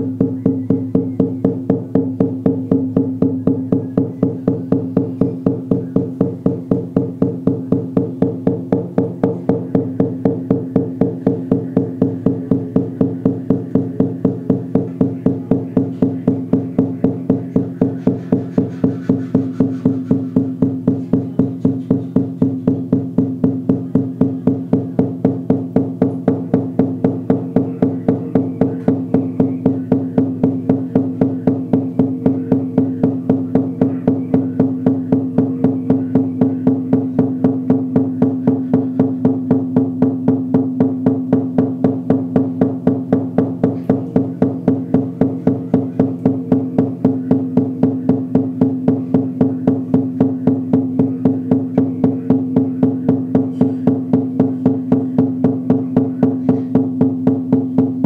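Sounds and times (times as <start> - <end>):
frame drum beating: 0.0 - 58.0.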